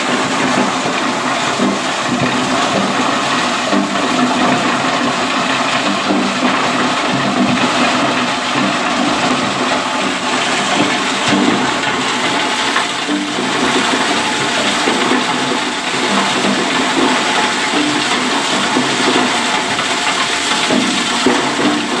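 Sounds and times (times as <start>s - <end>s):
concrete block crusher running: 0.0s - 22.0s
crushed aggregate pouring: 0.0s - 22.0s.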